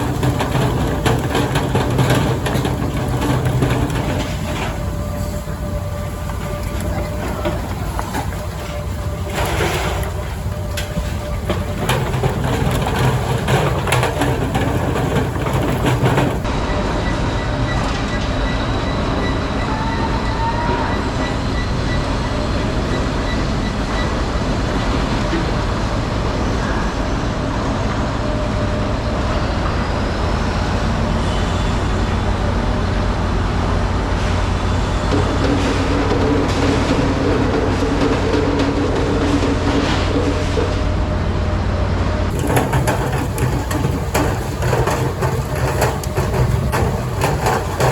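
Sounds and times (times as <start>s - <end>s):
machinery clanks and knocks: 0.0s - 19.6s, 27.7s - 47.9s
machinery low rumble: 0.0s - 47.9s.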